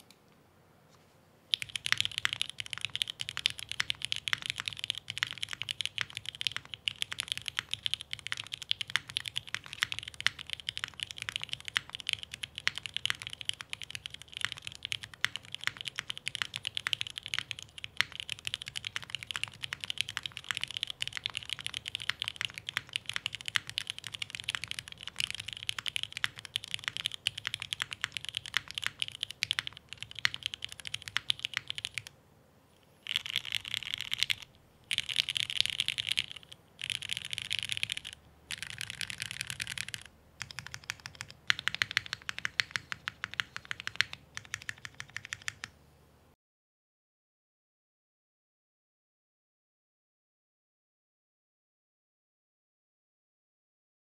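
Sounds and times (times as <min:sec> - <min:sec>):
mechanical keyboard typing: 0:01.5 - 0:32.1, 0:33.0 - 0:45.7.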